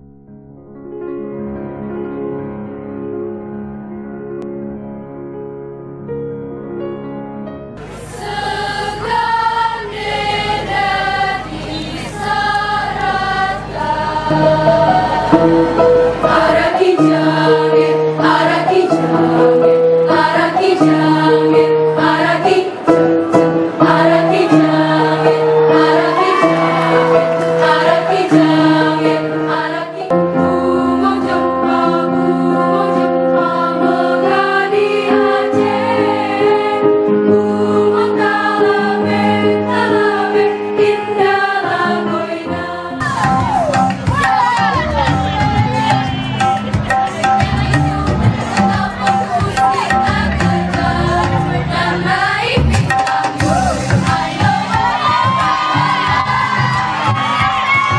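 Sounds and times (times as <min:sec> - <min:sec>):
women's choir singing: 0:07.9 - 0:43.3, 0:44.2 - 0:57.9.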